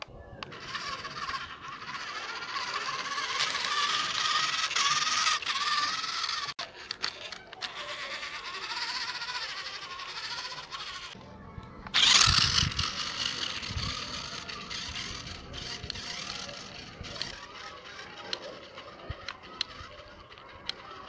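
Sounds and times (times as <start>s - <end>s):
toy car motor whirring and rattling: 0.4s - 11.2s, 11.8s - 21.0s
wheels grinding over concrete: 0.4s - 21.0s.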